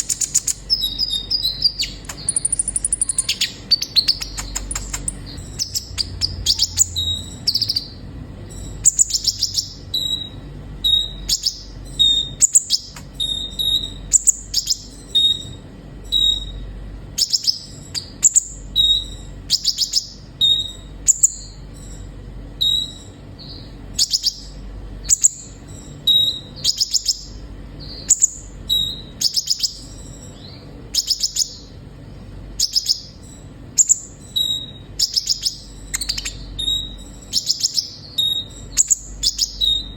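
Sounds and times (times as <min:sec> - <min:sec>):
bird twittering: 0:00.0 - 0:31.8, 0:32.6 - 0:39.9
faint low hum: 0:00.0 - 0:39.9.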